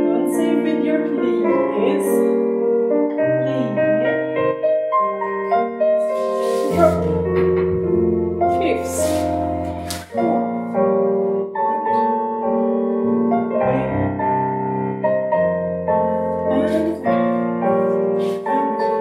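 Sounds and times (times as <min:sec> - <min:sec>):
slow solo piano music: 0:00.0 - 0:19.0.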